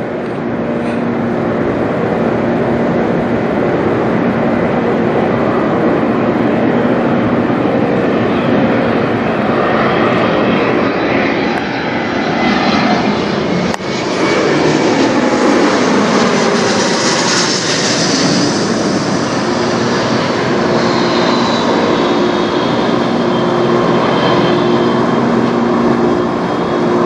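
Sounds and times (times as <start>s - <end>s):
jet engines roaring overhead: 0.0s - 27.0s.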